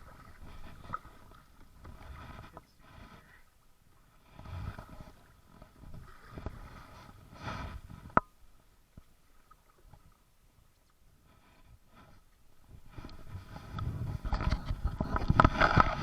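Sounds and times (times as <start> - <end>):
paddle splashing water: 0.0 - 16.0.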